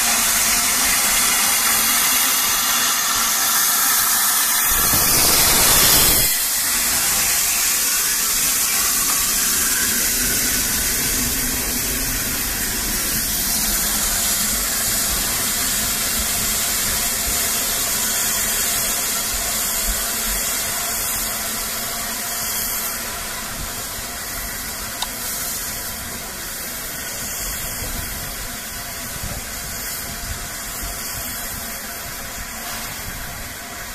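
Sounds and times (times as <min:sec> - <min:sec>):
steam locomotive hissing: 0:00.0 - 0:33.9.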